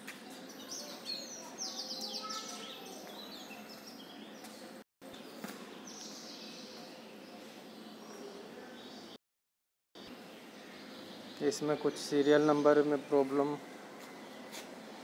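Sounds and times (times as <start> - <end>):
faint bird chirping: 0.1 - 9.2, 10.0 - 15.0.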